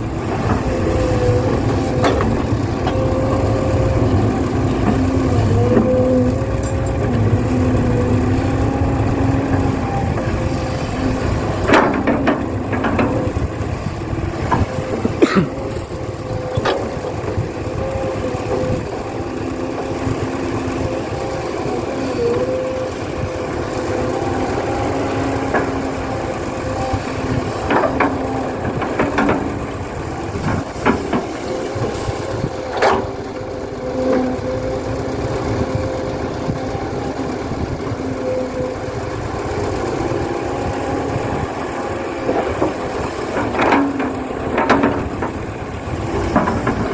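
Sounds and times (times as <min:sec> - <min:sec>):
model vehicle motor hum: 0:00.0 - 0:46.9.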